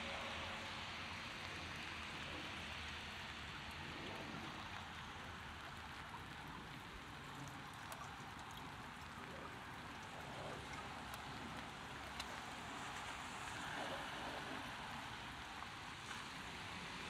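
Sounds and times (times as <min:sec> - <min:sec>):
rain falling on street: 0:00.0 - 0:17.0
faint drip ticks: 0:00.1 - 0:17.0.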